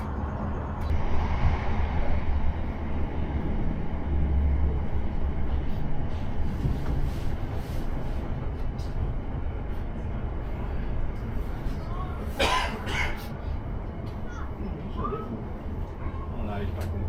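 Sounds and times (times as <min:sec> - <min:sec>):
road noise: 0:00.0 - 0:17.0
train wheels and motors rumbling: 0:00.0 - 0:17.0.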